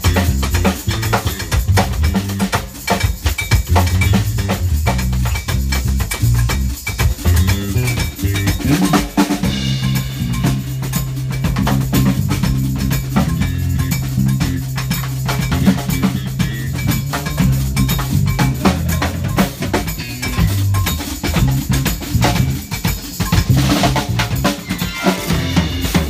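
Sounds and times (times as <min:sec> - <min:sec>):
drum kit groove: 0:00.0 - 0:26.0.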